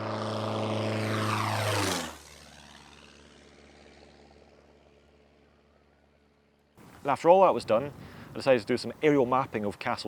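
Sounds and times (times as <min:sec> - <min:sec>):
propeller aeroplane passing low: 0:00.0 - 0:10.0.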